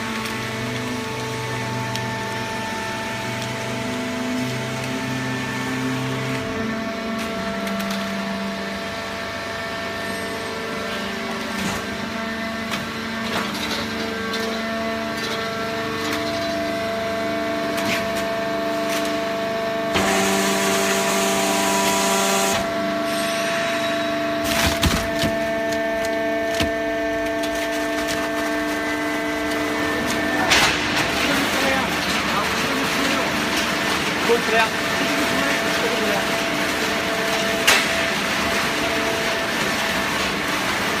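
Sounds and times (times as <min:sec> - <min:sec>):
hydraulic baler humming: 0:00.0 - 0:41.0.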